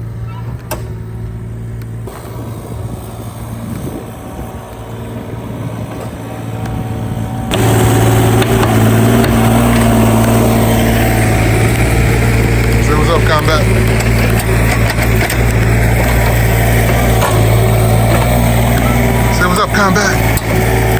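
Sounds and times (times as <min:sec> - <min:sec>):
large engine running: 0:00.0 - 0:20.9.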